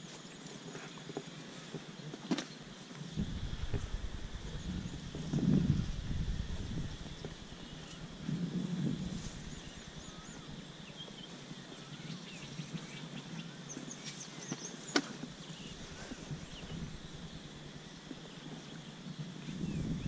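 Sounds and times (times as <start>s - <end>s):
high insect drone: 0.0s - 20.0s
birds chirping: 2.5s - 8.2s, 8.9s - 20.0s.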